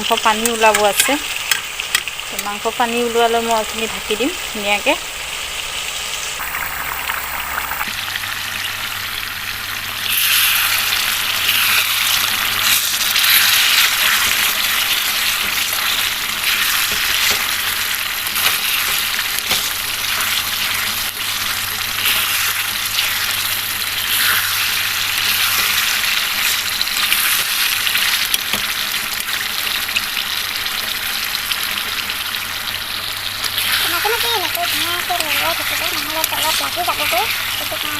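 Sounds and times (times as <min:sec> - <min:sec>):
chicken sizzling in hot oil: 0:00.0 - 0:37.9.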